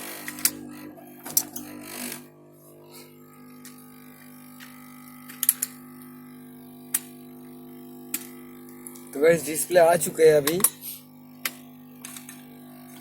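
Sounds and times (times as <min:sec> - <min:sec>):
electronics hum: 0:00.0 - 0:13.0.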